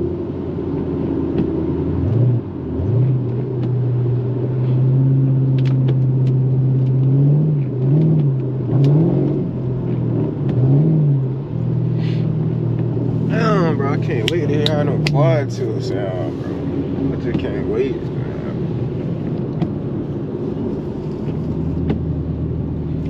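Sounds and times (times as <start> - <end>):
car engine heard from inside: 0.0 - 23.0.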